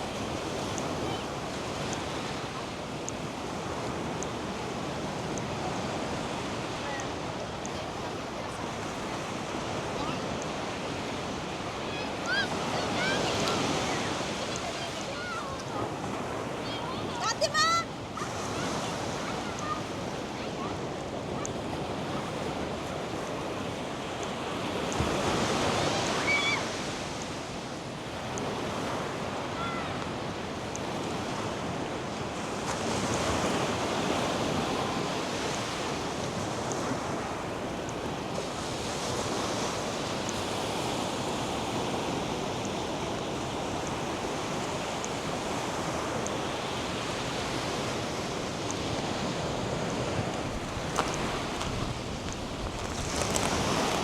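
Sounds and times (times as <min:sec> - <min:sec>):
waves breaking on a sandy beach: 0:00.0 - 0:54.0.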